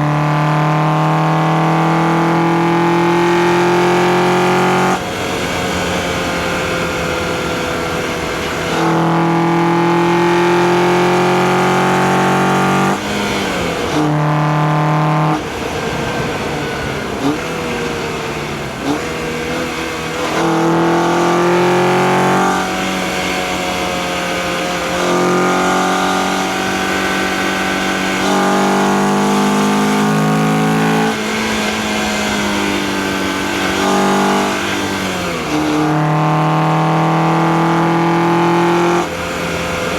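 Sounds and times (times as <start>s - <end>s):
car engine under load: 0.0s - 39.9s.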